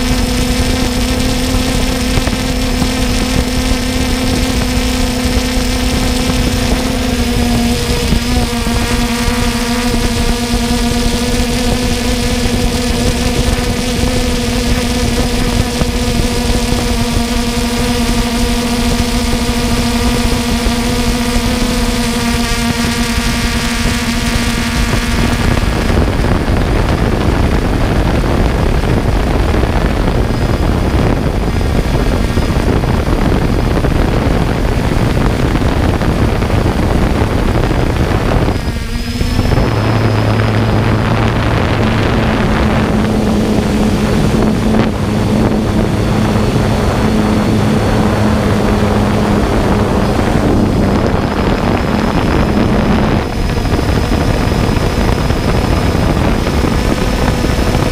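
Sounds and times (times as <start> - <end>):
drone motors and propellers hum: 0.0 - 57.9
wind rushing over microphone: 0.0 - 57.9.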